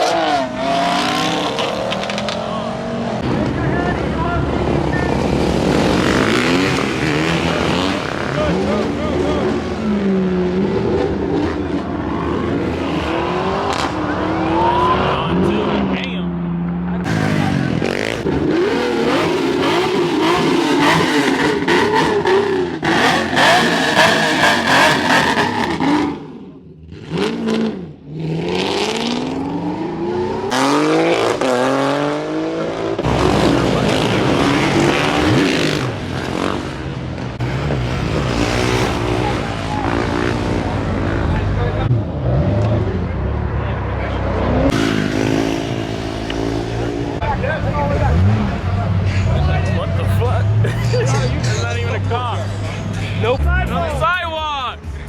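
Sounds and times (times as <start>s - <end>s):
engine revving: 0.0s - 54.0s
car engines running: 0.0s - 55.0s.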